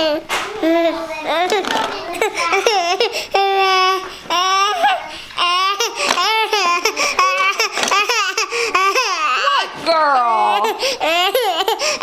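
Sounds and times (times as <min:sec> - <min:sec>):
baby laughing: 0:00.0 - 0:09.7, 0:10.5 - 0:12.0.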